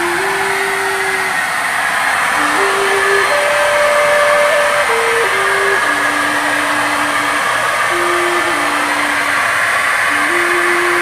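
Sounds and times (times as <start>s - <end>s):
electric paint spray gun running: 0.0s - 11.0s
thin tune of held notes: 0.0s - 11.0s.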